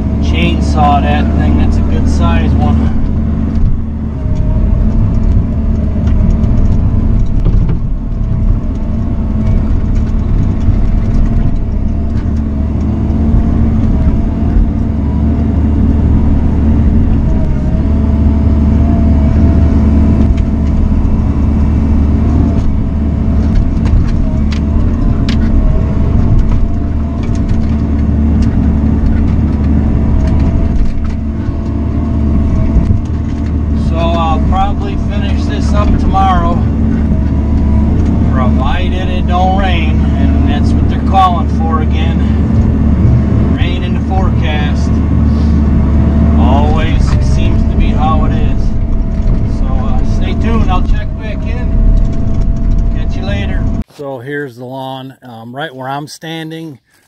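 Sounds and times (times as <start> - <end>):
diesel engine running under load: 0.0 - 53.9
hydraulic whine: 0.0 - 53.9.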